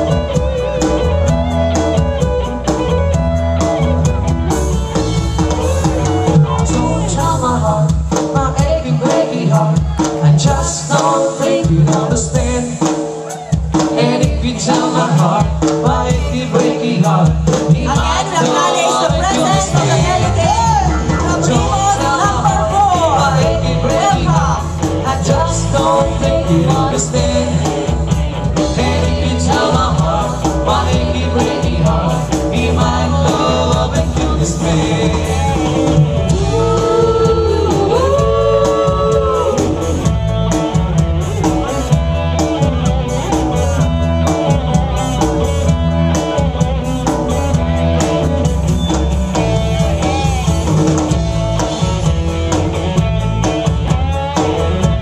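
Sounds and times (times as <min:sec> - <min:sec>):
live band dance music: 0:00.0 - 0:55.0.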